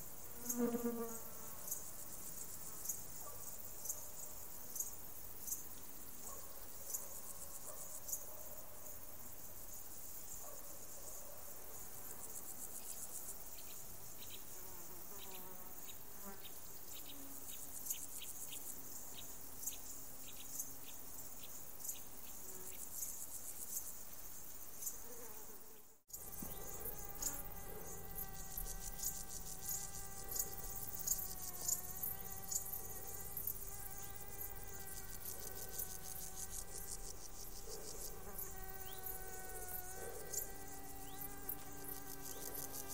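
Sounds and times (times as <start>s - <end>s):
crickets and insects chirring: 0.0s - 42.9s.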